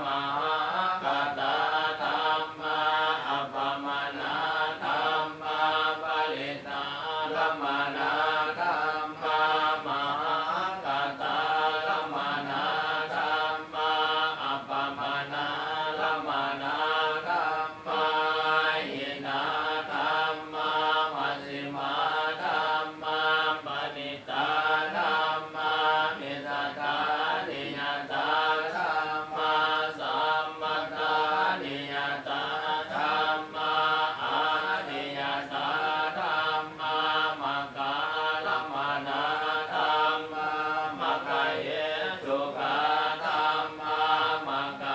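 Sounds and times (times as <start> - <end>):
voices chanting together: 0.0 - 44.9.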